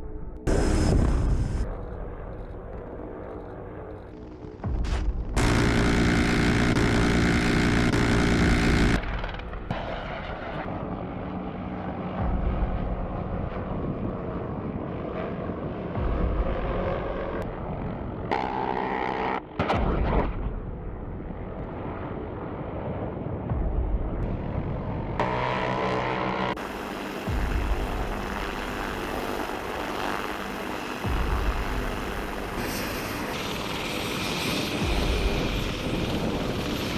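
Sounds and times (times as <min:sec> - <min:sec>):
helicopter turbine and rotor: 0:00.0 - 0:36.9.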